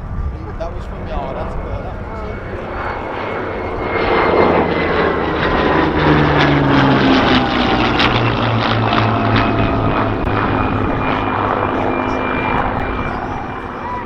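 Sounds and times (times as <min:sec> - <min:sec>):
propeller plane engine passing: 0:00.0 - 0:14.0.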